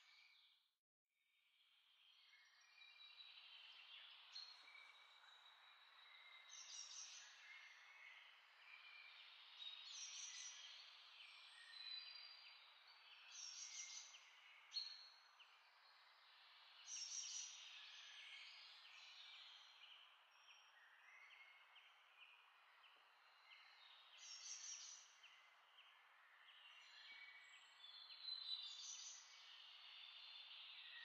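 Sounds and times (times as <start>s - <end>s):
faint birdsong chirps: 0.0s - 0.7s, 1.4s - 31.0s.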